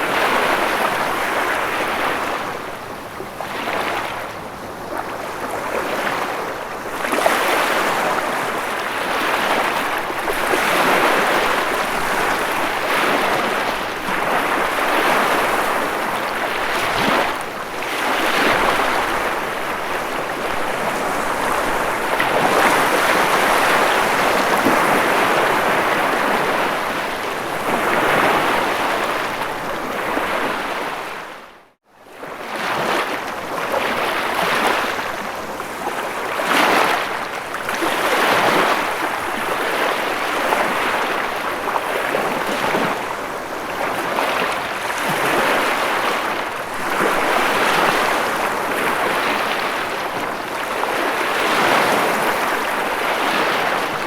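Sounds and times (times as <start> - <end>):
ocean waves on shore: 0.0 - 54.0.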